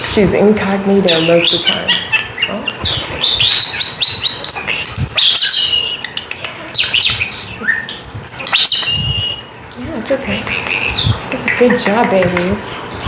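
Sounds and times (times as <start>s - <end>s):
starling singing: 0.0s - 13.0s.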